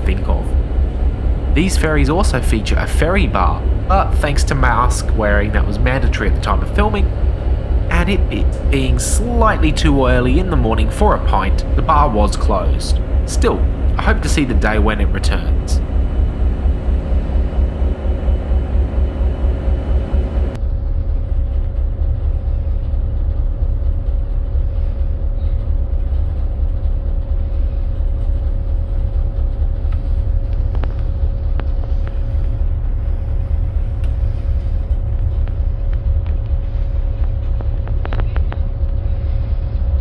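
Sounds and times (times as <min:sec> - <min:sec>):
ferry engine rumble: 0:00.0 - 0:40.0
machinery hum: 0:00.0 - 0:40.0.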